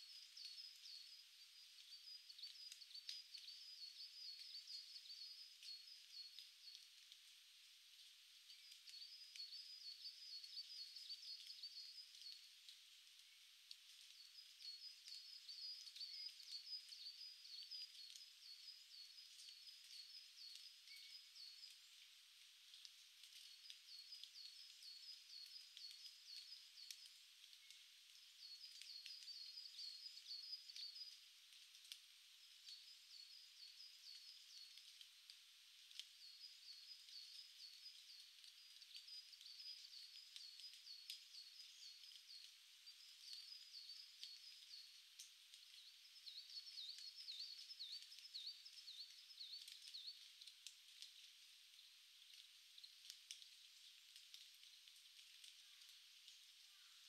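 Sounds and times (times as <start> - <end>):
songbird singing: 0.0 - 7.1, 8.0 - 57.0
faint hiss: 0.0 - 57.0.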